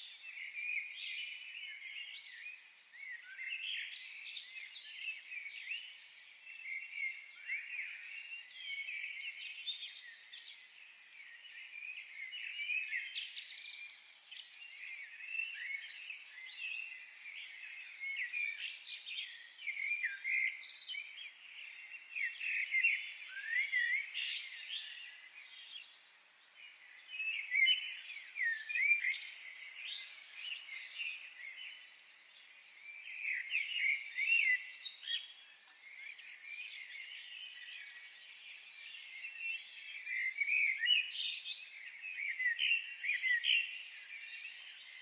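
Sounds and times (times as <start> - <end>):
songbirds chirping: 0.0 - 45.0.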